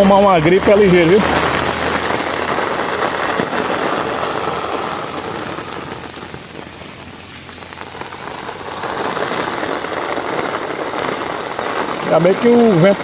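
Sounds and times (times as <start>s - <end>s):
heavy rain in wind: 0.0s - 13.0s.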